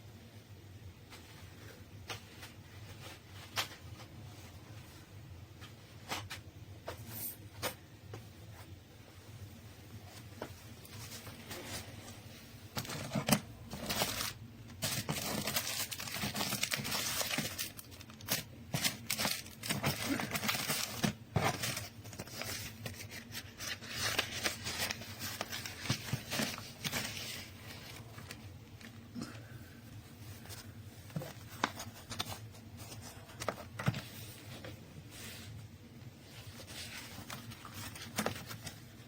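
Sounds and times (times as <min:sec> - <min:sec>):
scratching and rustling handling: 0:01.0 - 0:29.1, 0:29.9 - 0:39.0.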